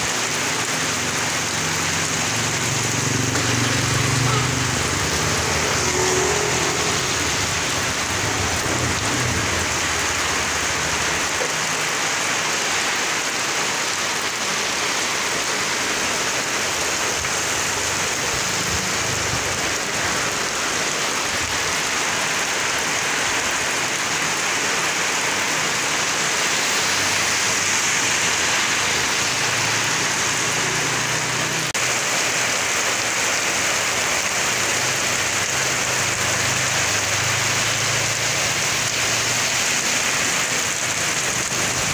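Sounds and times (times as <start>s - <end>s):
heavy rain on street: 0.0s - 41.9s.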